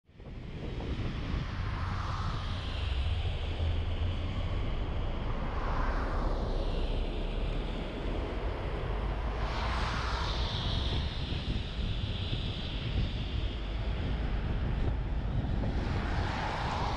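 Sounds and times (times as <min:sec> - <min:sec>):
wind on microphone: 0:00.1 - 0:16.9
engine and road rumble: 0:00.2 - 0:16.9.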